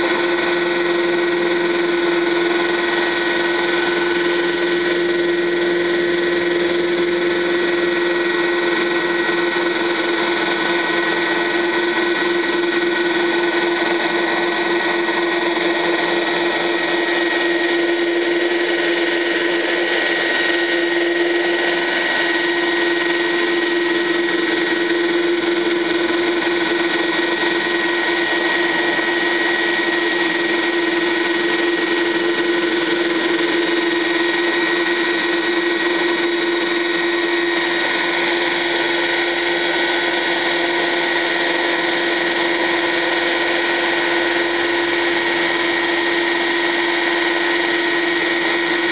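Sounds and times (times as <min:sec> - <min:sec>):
helicopter rotor hum: 0:00.0 - 0:48.9
helicopter turbine whine: 0:00.0 - 0:48.9.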